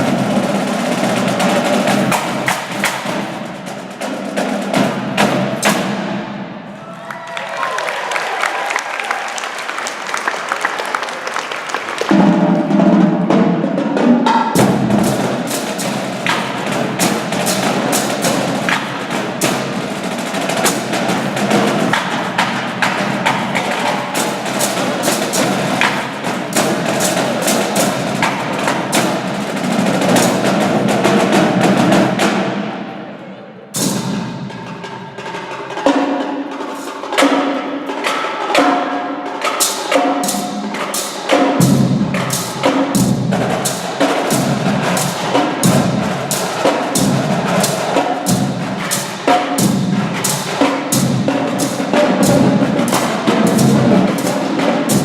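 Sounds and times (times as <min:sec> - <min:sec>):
percussion-heavy music: 0:00.0 - 0:06.8, 0:12.0 - 0:33.0, 0:33.8 - 0:55.0.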